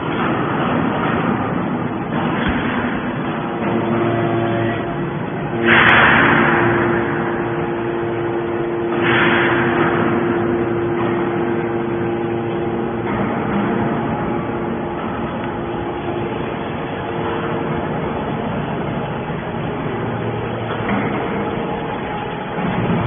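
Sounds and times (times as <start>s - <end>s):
baler machine hum: 0.0s - 23.0s
loud hydraulic rushing bursts: 0.0s - 23.0s.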